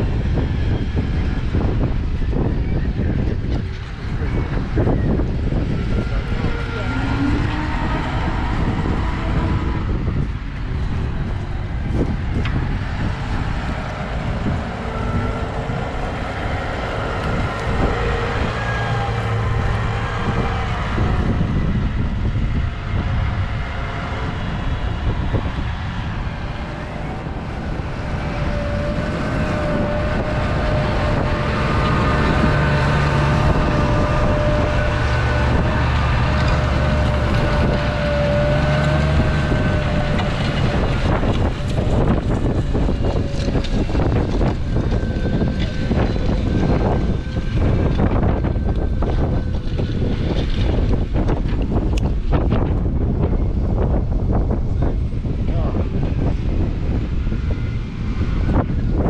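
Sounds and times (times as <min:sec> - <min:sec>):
steady whine: 0:00.0 - 0:59.0
tractor diesel engine rumble: 0:00.0 - 0:59.0.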